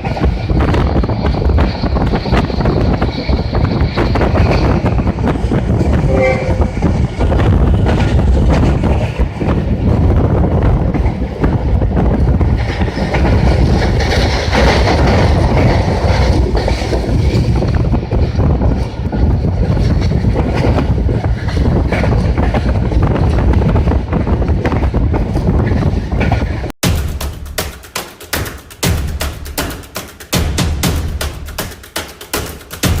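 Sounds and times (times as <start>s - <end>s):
wheels screeching on rail: 0.0s - 26.7s
train rumbling past: 0.0s - 31.6s
clickety-clack of train wheels: 0.0s - 33.0s.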